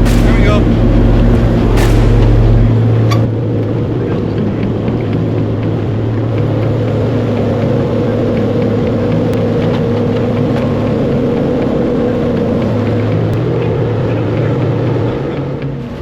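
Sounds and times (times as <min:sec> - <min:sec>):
heavy machine engine humming: 0:00.0 - 0:16.0.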